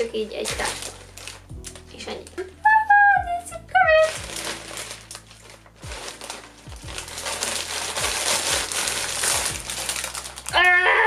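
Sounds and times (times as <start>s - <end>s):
plastic bag crinkling: 0.0s - 2.6s, 3.9s - 11.0s.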